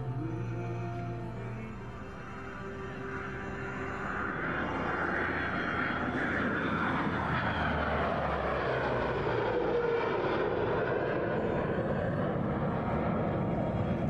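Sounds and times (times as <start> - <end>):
aircraft engines droning past: 0.0 - 14.0.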